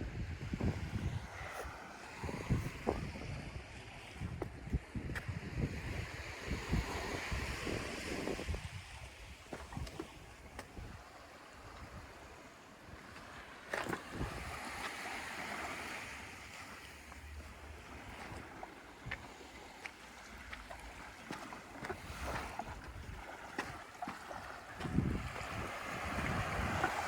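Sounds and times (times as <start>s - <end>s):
small waves washing on beach: 0.0s - 27.0s
wind rumbling on microphone: 0.0s - 27.0s.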